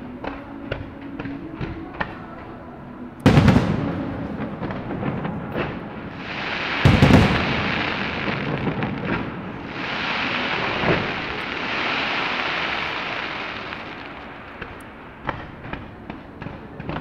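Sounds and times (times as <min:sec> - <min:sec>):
fireworks banging: 0:03.2 - 0:17.0
fireworks crackling: 0:03.2 - 0:17.0.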